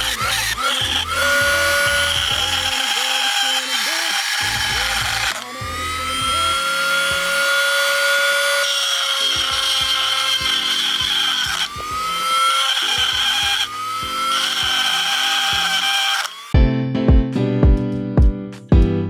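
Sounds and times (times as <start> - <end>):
angle grinder grinding metal: 0.0 - 16.6.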